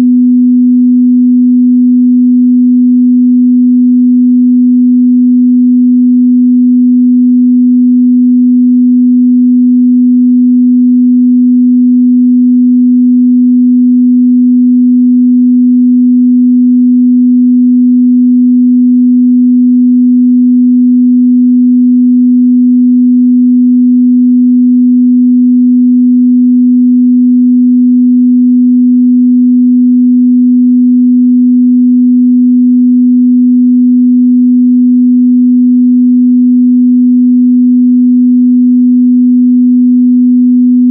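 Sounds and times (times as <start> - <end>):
sine test tone: 0.0 - 40.9.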